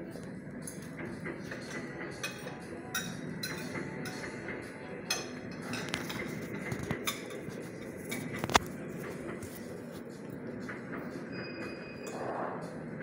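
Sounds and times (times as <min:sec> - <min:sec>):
dishes and cutlery clinking: 0:00.6 - 0:12.3.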